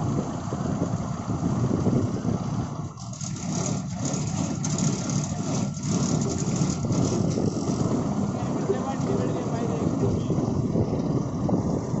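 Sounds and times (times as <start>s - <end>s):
road roller engine running: 0.0s - 12.0s.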